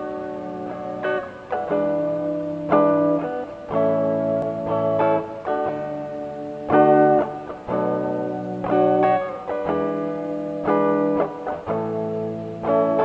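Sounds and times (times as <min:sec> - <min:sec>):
guitar background music: 0:00.0 - 0:13.0.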